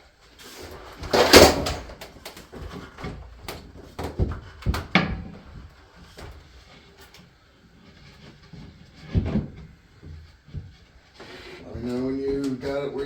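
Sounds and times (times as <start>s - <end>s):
wood scraping: 0.4s - 13.0s.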